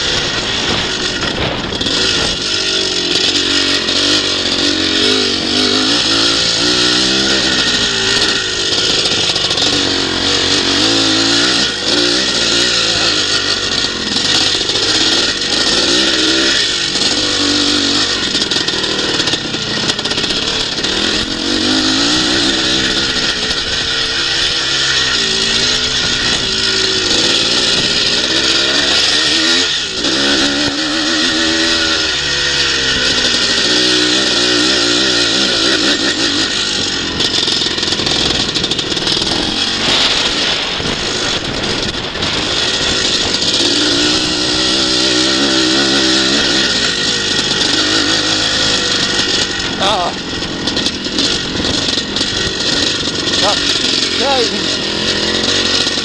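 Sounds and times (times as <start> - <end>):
motocross bike engine revving: 0.0 - 56.0
steady rush of noise: 0.0 - 56.0.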